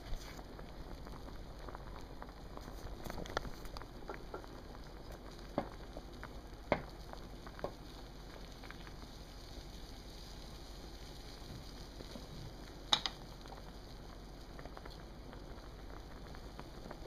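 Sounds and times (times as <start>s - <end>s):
water boiling in a pot: 0.0s - 17.0s.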